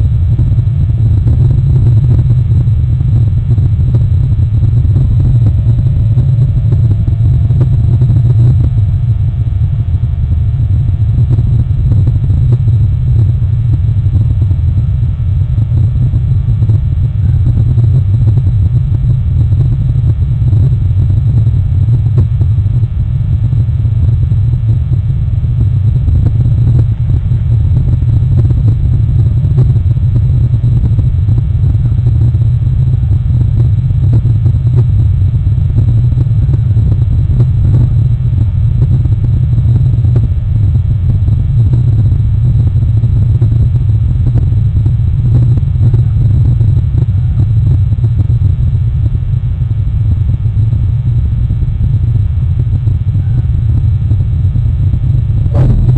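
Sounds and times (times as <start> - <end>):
loud low rumble: 0.0 - 55.9.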